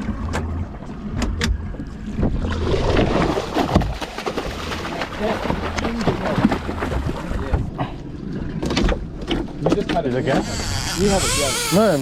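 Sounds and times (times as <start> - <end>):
boat motor running: 0.0 - 12.0
water noise: 0.0 - 12.0.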